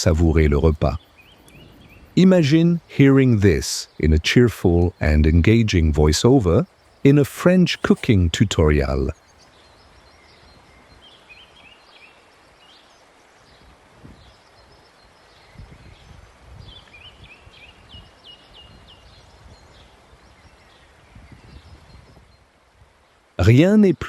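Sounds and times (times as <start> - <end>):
steady background hiss: 0.0 - 21.1, 22.4 - 24.0
small birds chirping: 0.0 - 22.3.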